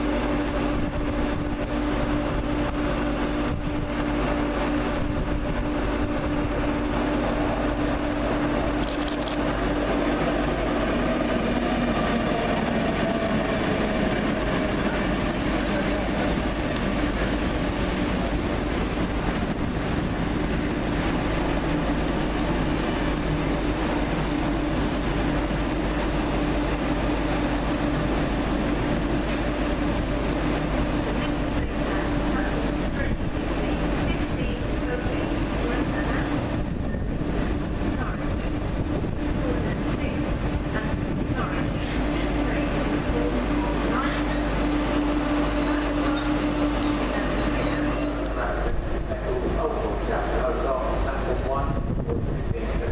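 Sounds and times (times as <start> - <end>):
train droning hum: 0.0 - 52.9.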